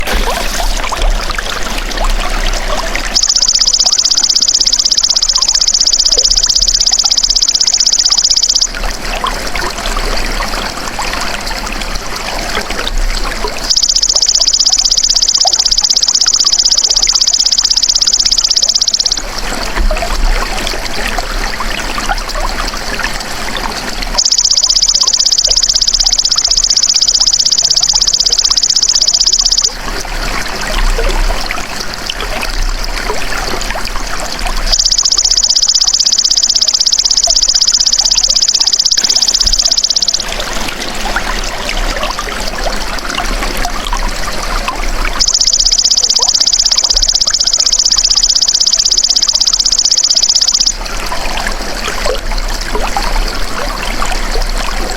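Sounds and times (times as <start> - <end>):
trickling stream water: 0.0 - 54.9.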